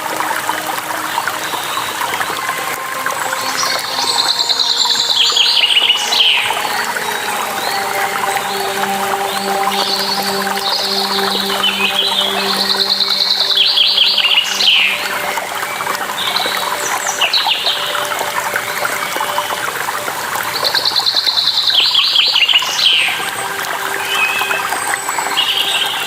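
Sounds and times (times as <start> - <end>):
water falling: 0.0 - 26.0
songbird singing: 0.4 - 26.0.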